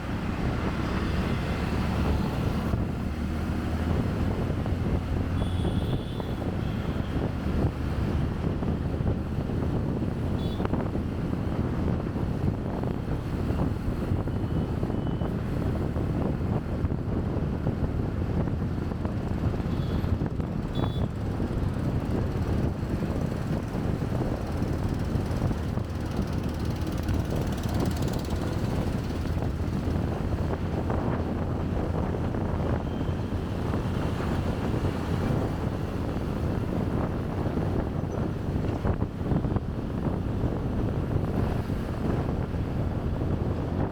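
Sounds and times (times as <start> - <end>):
road and engine noise: 0.0 - 43.9
wind buffeting microphone: 0.0 - 43.9.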